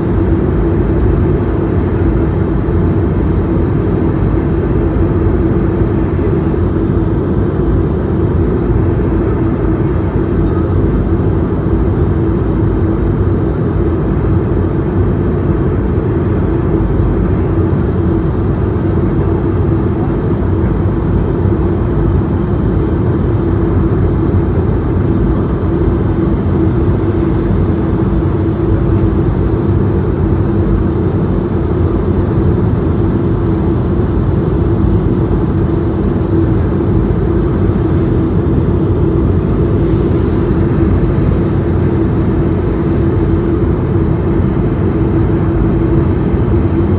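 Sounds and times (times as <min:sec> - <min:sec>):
jet engines droning: 0:00.0 - 0:46.9
steady cabin hum: 0:00.0 - 0:46.9.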